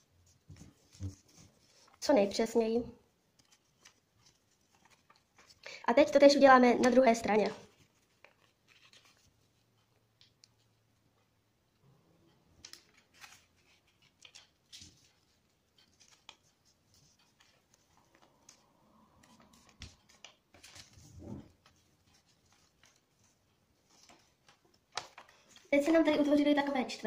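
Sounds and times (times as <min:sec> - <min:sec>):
paper rustling and crinkling: 0:00.2 - 0:02.4, 0:03.3 - 0:10.7, 0:12.6 - 0:27.0.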